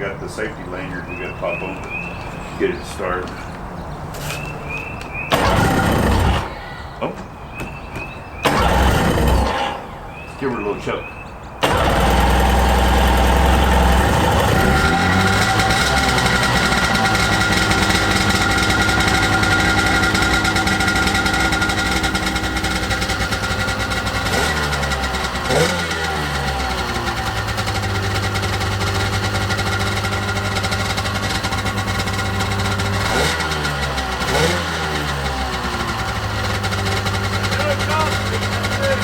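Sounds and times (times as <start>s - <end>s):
two-stroke engine idling and revving: 5.2s - 6.7s, 8.4s - 10.8s, 11.6s - 39.0s.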